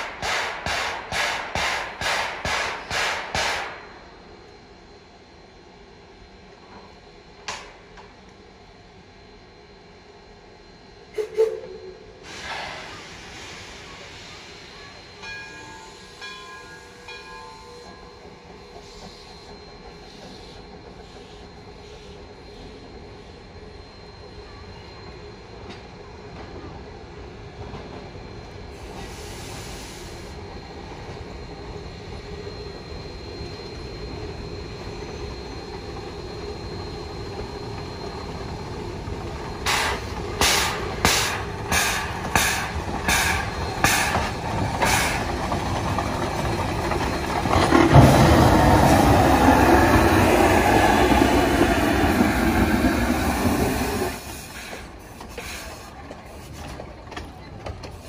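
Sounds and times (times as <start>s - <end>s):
steam locomotive running: 0.0s - 58.0s.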